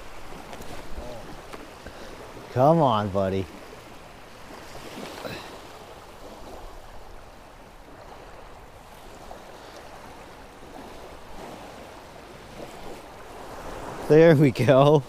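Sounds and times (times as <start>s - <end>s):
waves lapping at shore: 0.0s - 15.0s.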